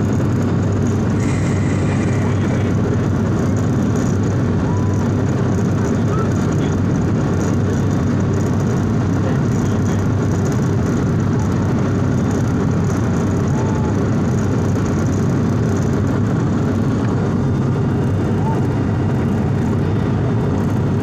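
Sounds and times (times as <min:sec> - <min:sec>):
airliner engines droning: 0:00.0 - 0:21.0.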